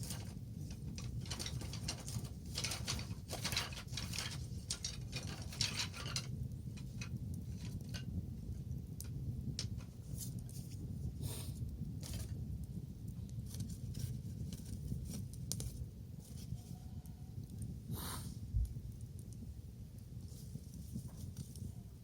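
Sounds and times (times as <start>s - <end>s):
bonfire crackling and popping: 0.0s - 16.2s, 17.4s - 17.9s, 18.6s - 22.0s.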